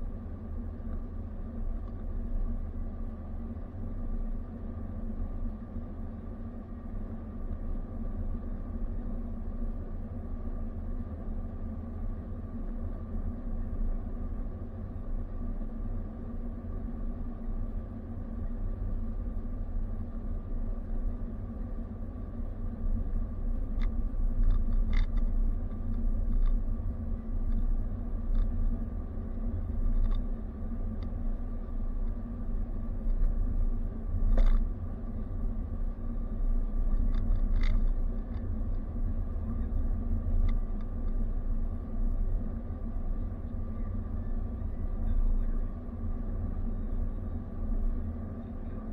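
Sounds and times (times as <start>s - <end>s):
car engine and tyres rumbling: 0.0s - 48.9s
faint steady hum: 0.0s - 48.9s.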